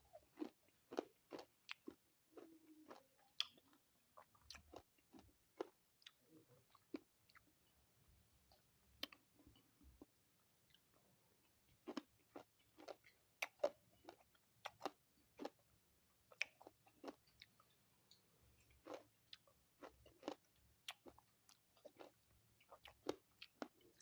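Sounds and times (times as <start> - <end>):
person chewing fruit: 0.1 - 7.6, 8.5 - 24.0.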